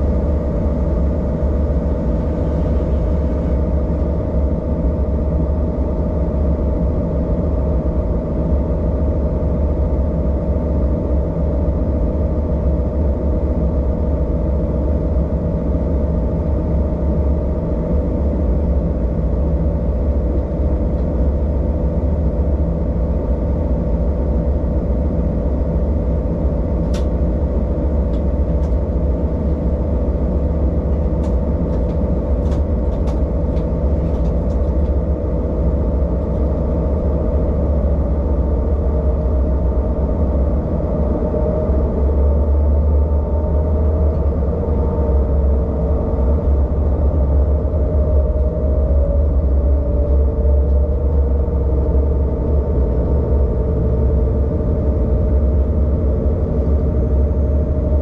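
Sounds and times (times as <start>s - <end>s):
diesel railcar engine drone: 0.0s - 58.0s
rumble of train wheels: 0.0s - 58.0s.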